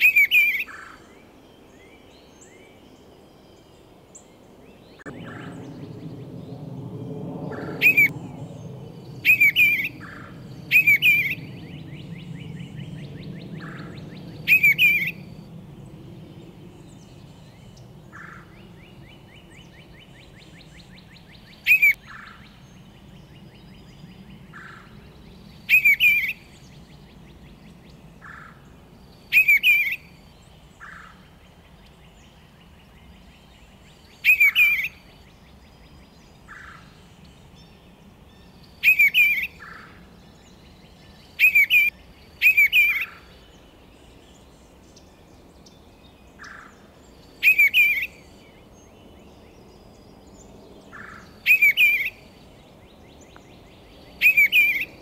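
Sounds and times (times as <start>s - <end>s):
bird singing warbled phrases: 0.0s - 3.6s, 4.3s - 55.0s.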